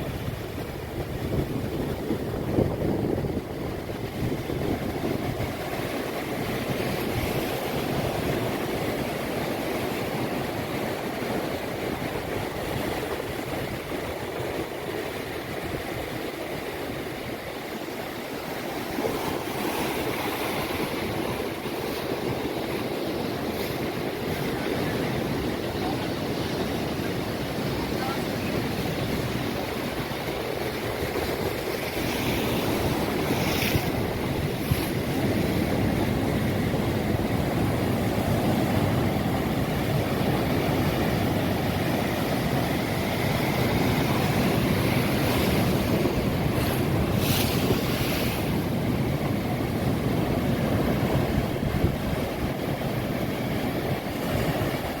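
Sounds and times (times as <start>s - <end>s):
sea surf breaking: 0.0s - 55.0s
wind on microphone: 0.0s - 55.0s.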